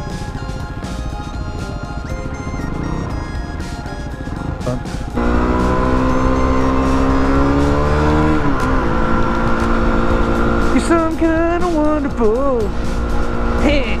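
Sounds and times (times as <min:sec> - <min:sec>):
motorcycle engine running: 0:00.0 - 0:14.0
music playing: 0:00.0 - 0:14.0.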